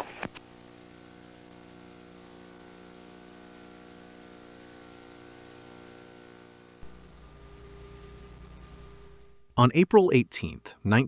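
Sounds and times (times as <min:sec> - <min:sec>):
faint hum of held tones: 0:00.0 - 0:09.8.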